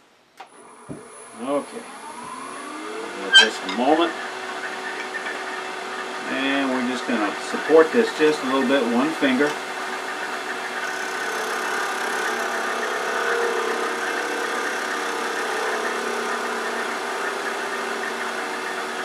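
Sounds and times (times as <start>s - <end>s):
wood lathe humming: 0.5s - 19.0s
gouge cutting spinning wood: 0.6s - 19.0s.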